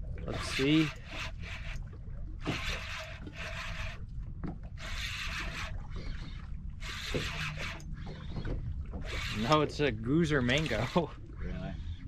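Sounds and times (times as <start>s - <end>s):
low rumble of wind and sea: 0.0s - 12.0s
water lapping against boat hull: 0.0s - 12.0s.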